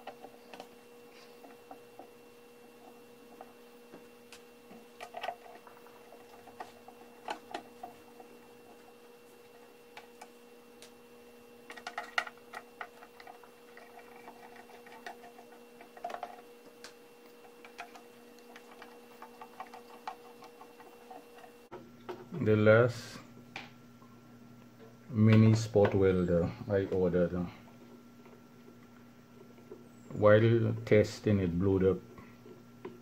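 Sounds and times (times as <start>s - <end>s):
faint hum: 0.0s - 33.0s.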